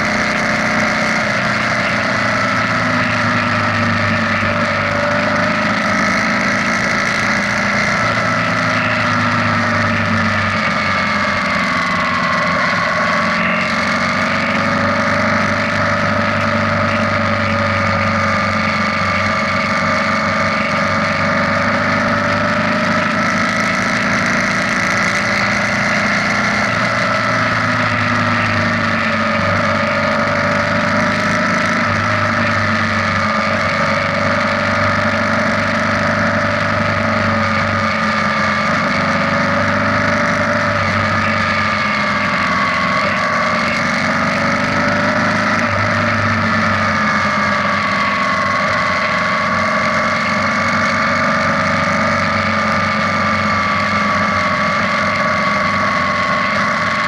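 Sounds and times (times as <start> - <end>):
motorcycle engine cruising: 0.0 - 57.0
steady whine: 0.0 - 57.0
wind and road noise: 0.0 - 57.0.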